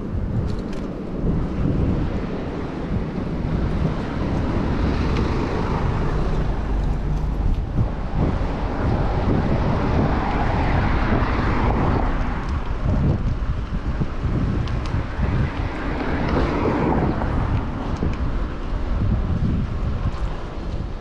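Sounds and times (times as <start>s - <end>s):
road traffic noise: 0.0s - 21.0s
wind rushing over microphone: 0.0s - 21.0s.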